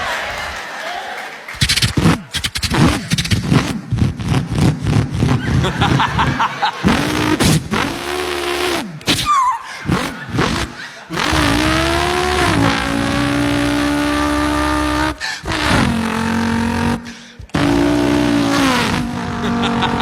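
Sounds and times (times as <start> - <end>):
man imitating car engine: 1.7 - 20.0.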